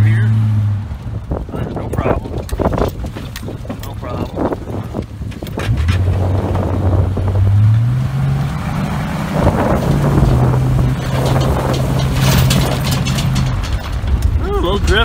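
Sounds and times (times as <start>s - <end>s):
car engine pulling: 0.0s - 15.0s
wind on microphone: 0.7s - 15.0s.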